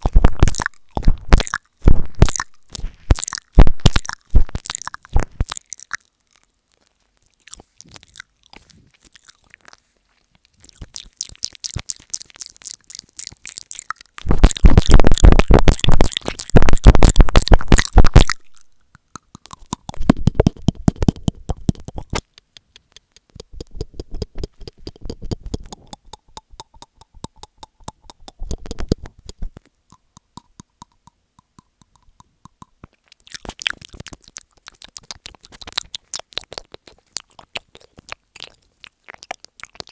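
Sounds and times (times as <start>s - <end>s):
wet mouth clicks and smacks: 0.0s - 6.1s, 6.8s - 39.9s.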